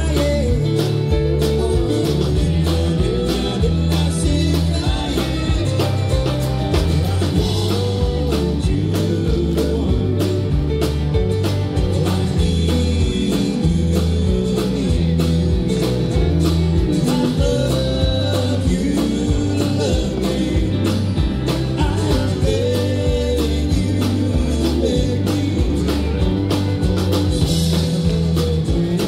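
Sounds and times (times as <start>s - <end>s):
live country rock band: 0.0s - 29.0s.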